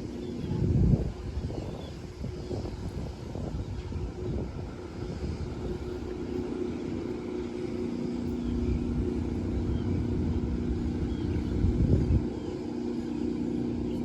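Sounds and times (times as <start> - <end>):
engine humming: 0.0 - 14.0
wind buffeting microphone: 0.0 - 14.0.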